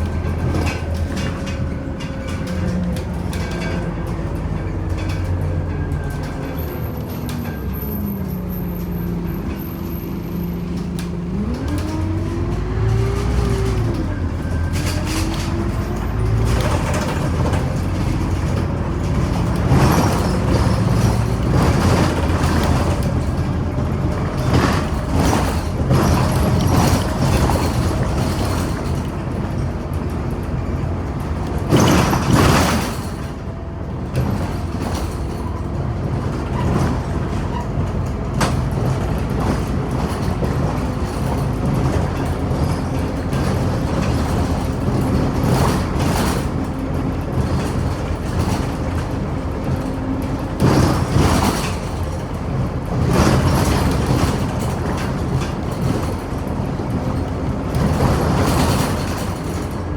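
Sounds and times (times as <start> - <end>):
bus engine humming: 0.0 - 59.9
rumbling road noise: 0.0 - 59.9.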